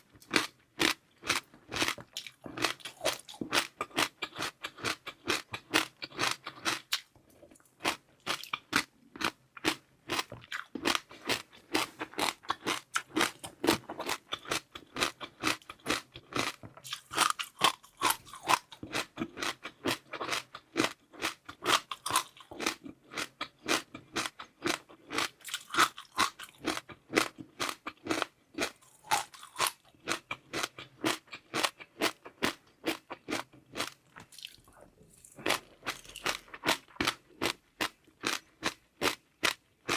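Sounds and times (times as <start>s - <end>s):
crisp crunching and chewing: 0.0s - 39.9s.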